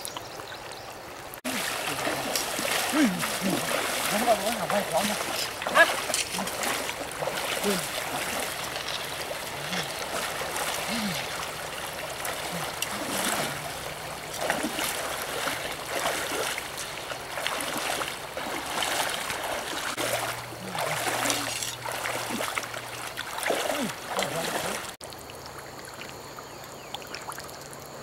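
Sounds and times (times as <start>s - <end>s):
legs wading through water: 0.0s - 25.0s
shallow stream rushing: 0.0s - 26.3s.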